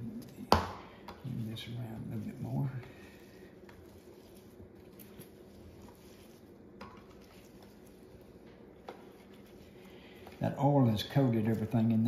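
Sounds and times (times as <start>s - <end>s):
hand tossing food squishing: 0.0s - 12.0s.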